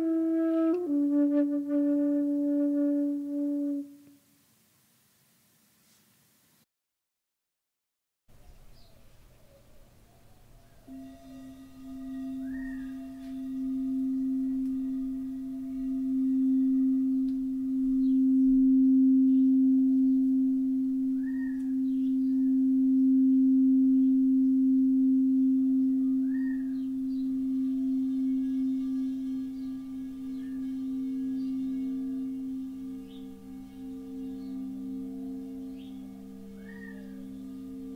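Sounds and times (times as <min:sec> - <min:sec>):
singing bowl sustained tone: 0:00.0 - 0:04.2, 0:09.4 - 0:37.9.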